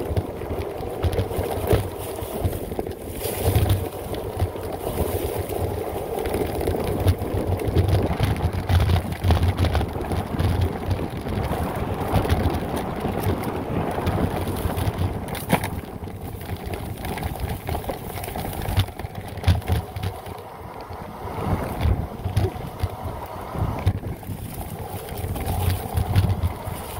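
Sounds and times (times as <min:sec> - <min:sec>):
rattles and clicks: 0:00.0 - 0:26.9
rumble of bike tyres: 0:00.0 - 0:26.9
wind buffeting microphone: 0:00.0 - 0:26.9.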